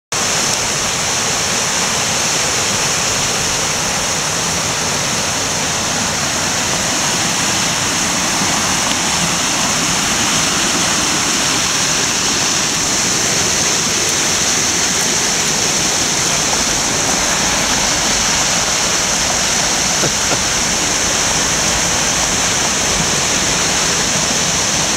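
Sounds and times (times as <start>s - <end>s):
stream rushing over rocks: 0.1s - 24.9s.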